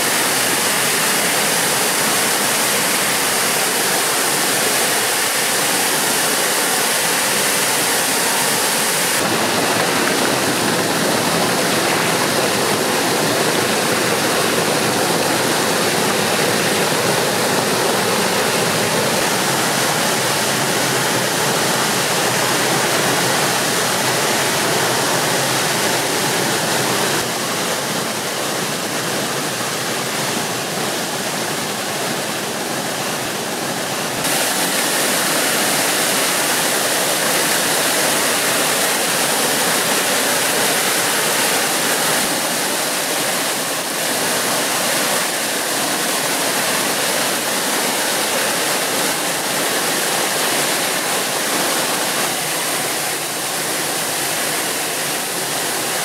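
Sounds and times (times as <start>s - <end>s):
waterfall rushing over rocks: 0.0s - 56.0s.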